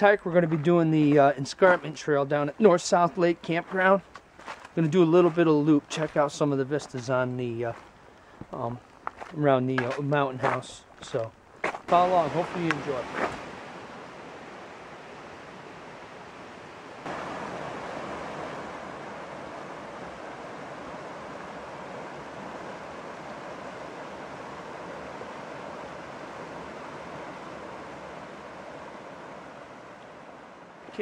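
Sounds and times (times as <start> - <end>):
creek rushing over boulders: 0.0 - 31.0.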